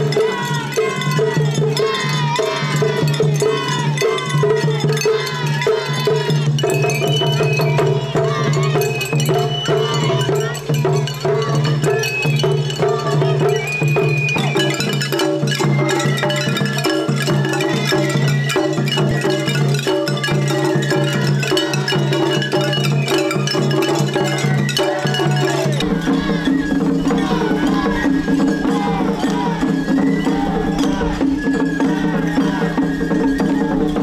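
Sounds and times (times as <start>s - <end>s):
hand cymbals clashing: 0.0s - 34.0s
taiko drums: 0.0s - 34.0s
voices calling out: 0.0s - 34.0s.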